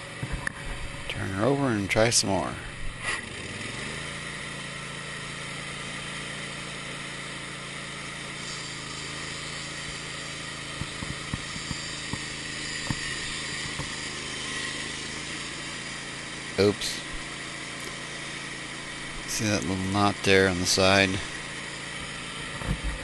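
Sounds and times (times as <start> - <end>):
sawmill engine running: 0.0 - 23.0.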